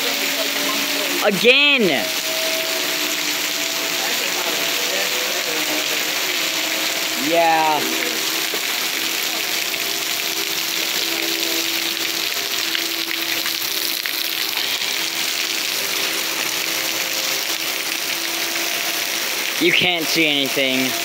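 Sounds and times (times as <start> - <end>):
faint warning siren: 0.0 - 21.0
heavy rain pouring: 0.0 - 21.0.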